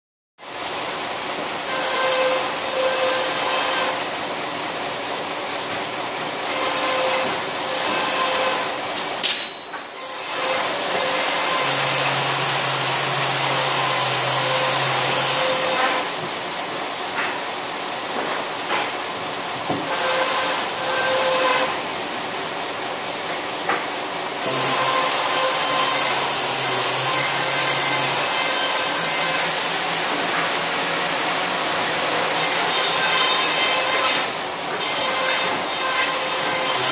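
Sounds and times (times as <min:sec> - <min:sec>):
wood-processing machine humming: 0:00.4 - 0:36.9.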